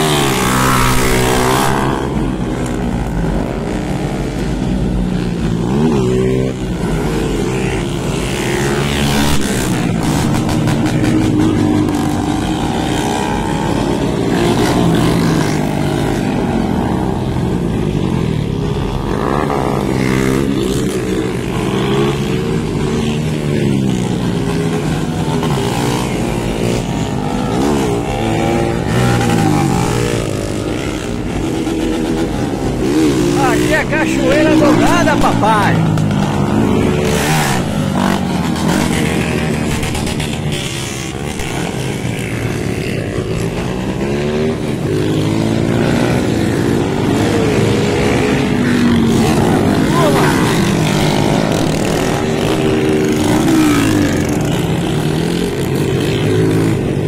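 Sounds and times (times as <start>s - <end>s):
motorcycles revving and passing: 0.0s - 57.0s.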